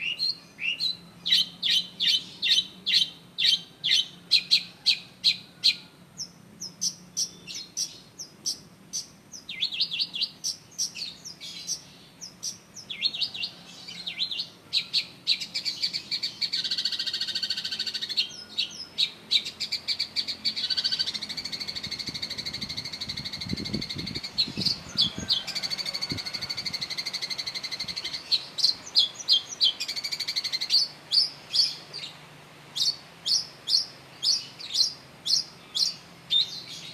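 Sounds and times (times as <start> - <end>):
shrike singing sharp chirps and trills: 0.0 - 36.9.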